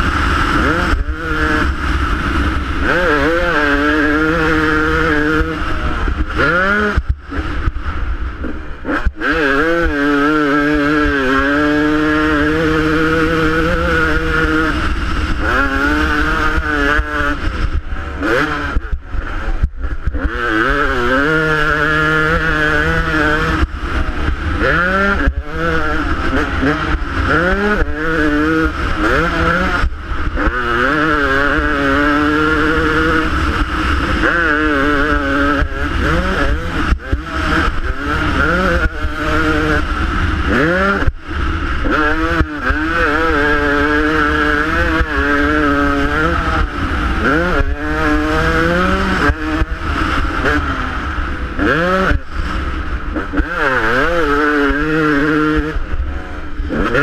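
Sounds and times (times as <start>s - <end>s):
dirt bike engine revving: 0.0s - 57.0s
wind rumble on camera: 0.0s - 57.0s.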